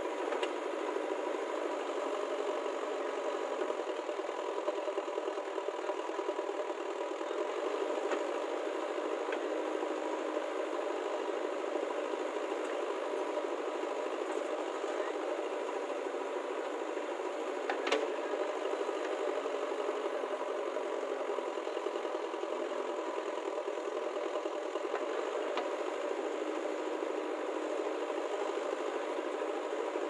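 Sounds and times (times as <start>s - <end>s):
diesel engine running under load: 0.0s - 30.0s
tractor engine idling: 0.0s - 30.0s.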